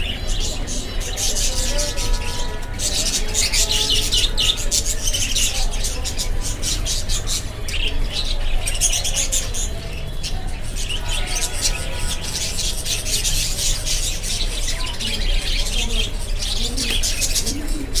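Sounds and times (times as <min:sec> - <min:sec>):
budgerigars chattering and warbling: 0:00.0 - 0:18.0.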